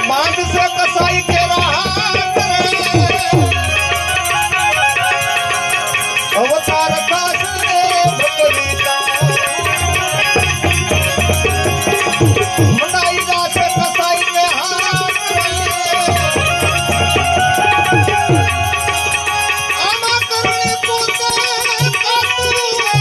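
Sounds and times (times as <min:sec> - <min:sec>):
melodic accompaniment: 0:00.0 - 0:23.0
tabla rhythm: 0:00.0 - 0:23.0.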